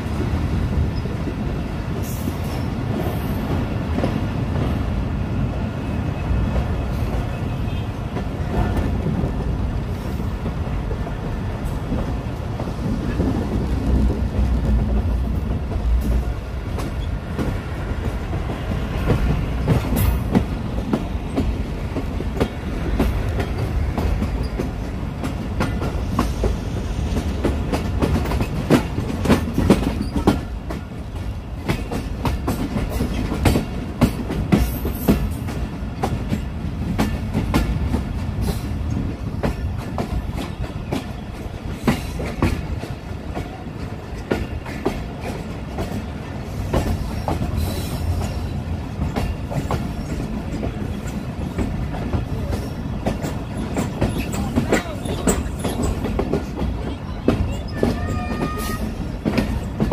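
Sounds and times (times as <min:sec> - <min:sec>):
train wheels rumbling: 0:00.0 - 0:59.9
clacking over rail joints: 0:06.5 - 0:59.9.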